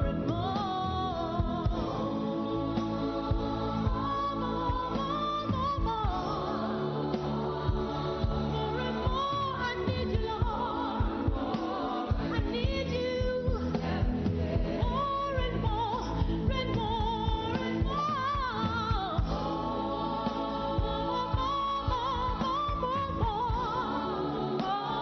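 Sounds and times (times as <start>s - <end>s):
group singing gospel song: 0.0s - 25.0s
live band playing: 0.0s - 25.0s
steady drum beat: 0.0s - 25.0s.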